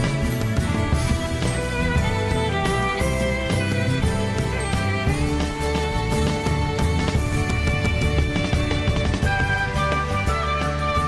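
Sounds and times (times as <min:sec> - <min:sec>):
bass line: 0:00.0 - 0:11.0.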